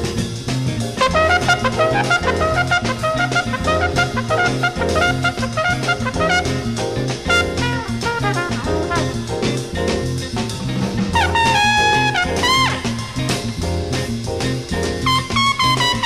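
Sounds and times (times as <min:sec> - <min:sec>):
jazz music with brass and drums: 0:00.0 - 0:16.0.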